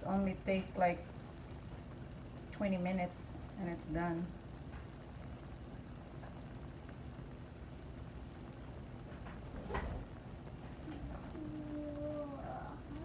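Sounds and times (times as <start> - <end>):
stew bubbling in a pan: 0.0 - 13.0.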